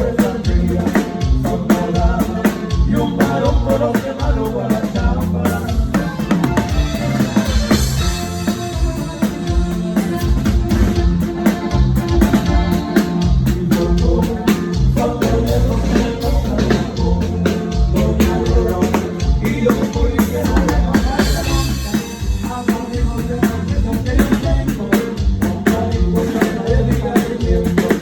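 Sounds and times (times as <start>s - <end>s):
bass line: 0.0s - 28.0s
drum kit beat: 0.0s - 28.0s
live band playing: 0.0s - 28.0s.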